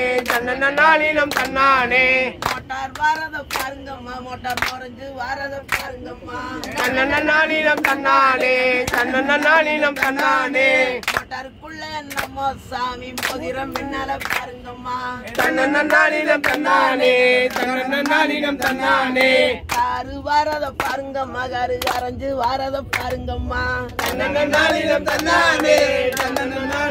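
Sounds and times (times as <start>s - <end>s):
group singing in chorus: 0.0s - 26.9s
steady hand claps: 0.1s - 4.9s, 5.6s - 6.0s, 6.6s - 11.4s, 12.0s - 12.4s, 13.1s - 14.6s, 15.3s - 21.1s, 21.7s - 23.3s, 23.9s - 26.9s.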